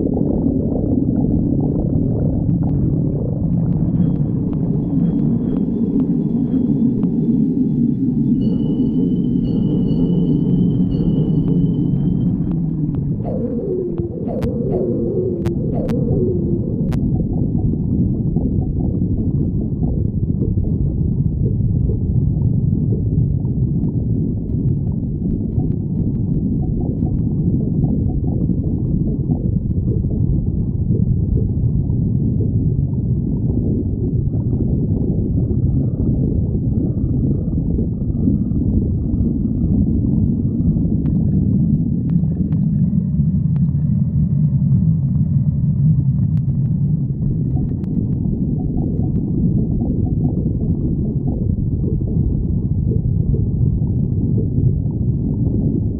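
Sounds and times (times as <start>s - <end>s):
stomach growling: 0.0s - 7.6s, 10.9s - 55.9s.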